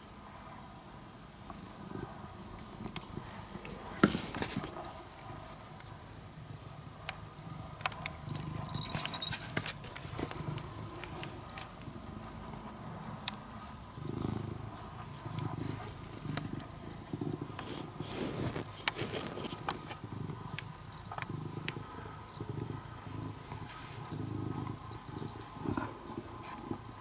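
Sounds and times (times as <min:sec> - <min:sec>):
cat purring: 0:01.4 - 0:27.0.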